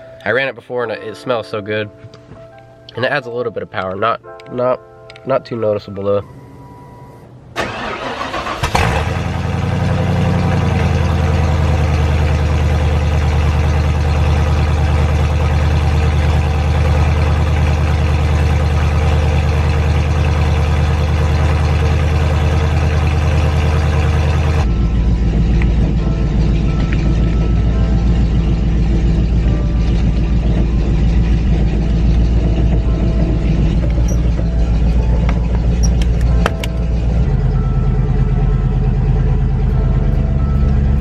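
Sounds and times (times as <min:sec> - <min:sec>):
car engine cranking and idling: 0:06.2 - 0:41.0.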